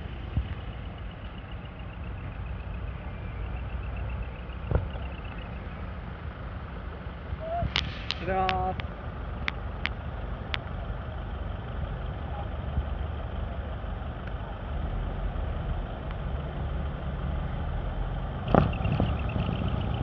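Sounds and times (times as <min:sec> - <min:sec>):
truck engines rumbling: 0:00.0 - 0:20.0.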